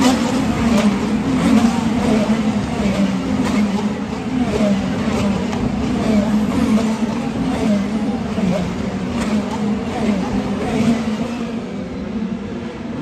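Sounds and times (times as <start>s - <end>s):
cars accelerating: 0.0s - 13.0s
race car engines: 0.0s - 13.0s.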